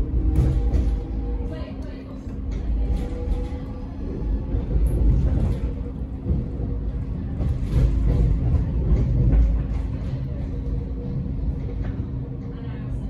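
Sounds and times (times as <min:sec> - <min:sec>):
electric train rumbling on board: 0:00.0 - 0:13.0.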